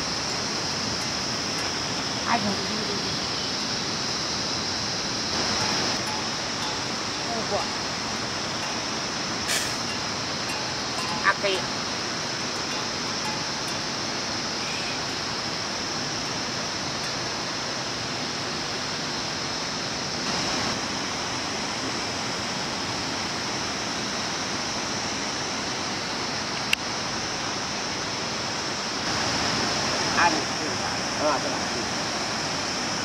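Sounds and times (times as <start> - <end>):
flowing water rushing: 0.0 - 33.0
high hiss: 0.0 - 33.0.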